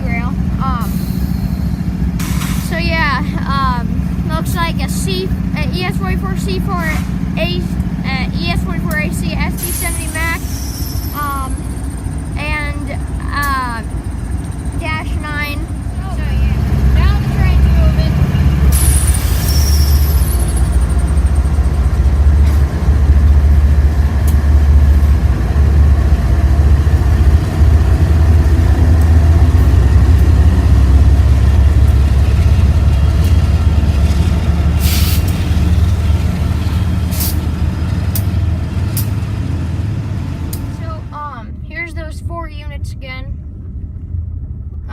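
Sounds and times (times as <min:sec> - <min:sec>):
diesel locomotives rumbling: 0:00.0 - 0:44.9.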